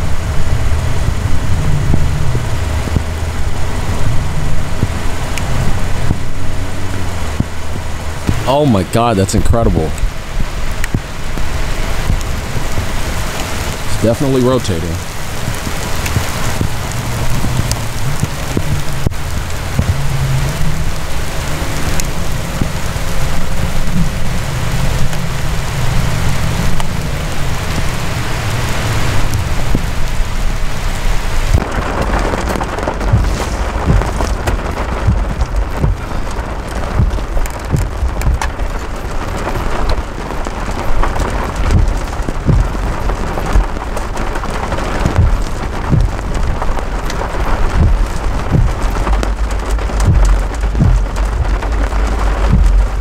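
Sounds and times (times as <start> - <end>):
low thumps of drops: 0.0 - 14.2, 15.0 - 28.0, 28.8 - 53.0
heavy rain: 0.0 - 53.0.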